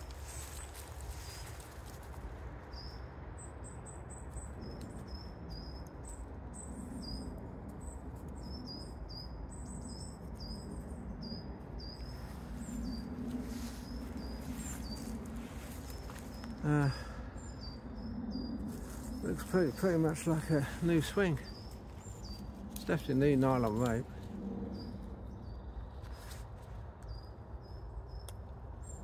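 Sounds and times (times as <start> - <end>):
low background rumble: 0.0 - 29.0
small birds chirping: 0.0 - 29.0.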